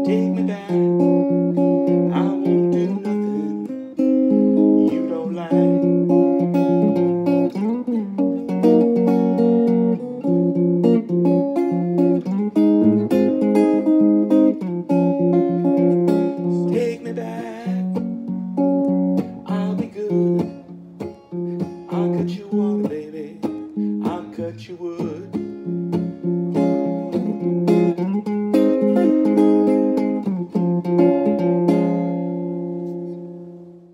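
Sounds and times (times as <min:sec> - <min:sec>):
electric guitar melody: 0:00.0 - 0:33.9.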